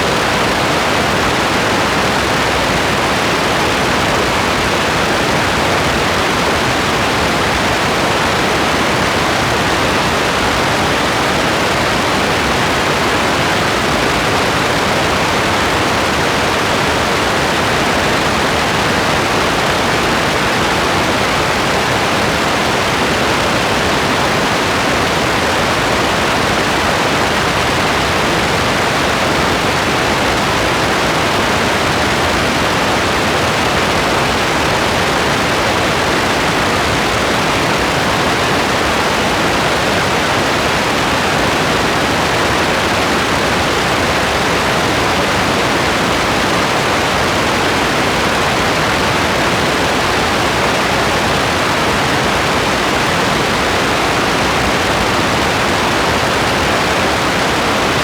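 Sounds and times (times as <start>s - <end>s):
rain falling steadily: 0.0s - 58.0s.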